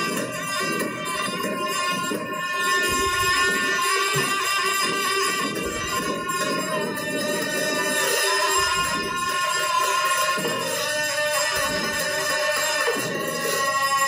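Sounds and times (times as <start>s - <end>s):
hand cymbals ringing: 0.0s - 14.0s.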